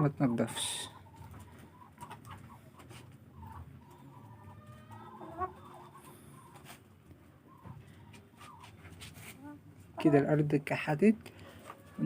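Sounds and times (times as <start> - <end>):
chickens clucking: 0.2 - 12.0.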